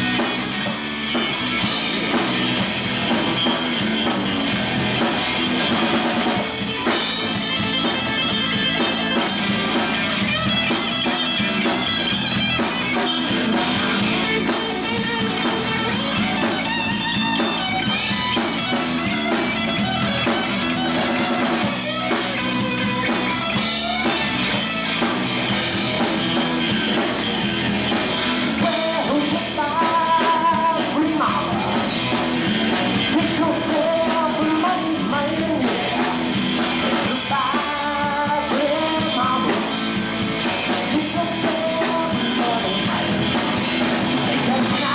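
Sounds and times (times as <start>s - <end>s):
bass guitar: 0.0s - 44.9s
drum kit: 0.0s - 44.9s
electric guitar lead: 0.0s - 44.9s.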